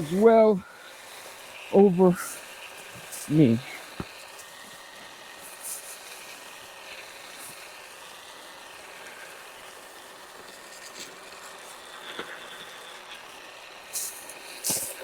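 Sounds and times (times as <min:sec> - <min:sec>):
seed spreader whirring: 0:00.0 - 0:15.0.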